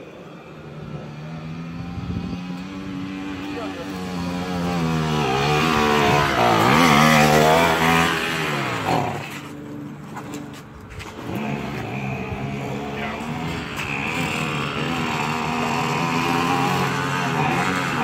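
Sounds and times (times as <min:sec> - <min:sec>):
moped engine revving past: 0:00.3 - 0:10.4, 0:11.0 - 0:18.0.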